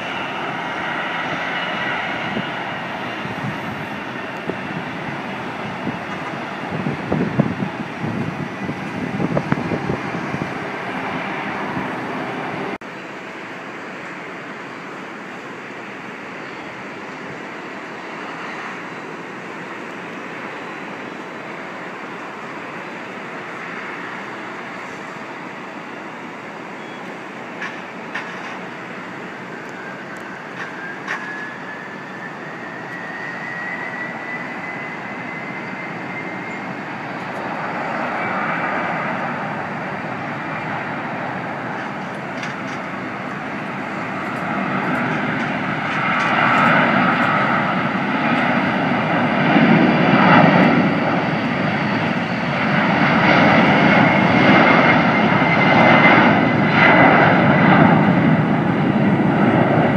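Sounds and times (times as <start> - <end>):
jet engine roar: 0.0 - 59.9
jet engines whining: 0.0 - 59.9.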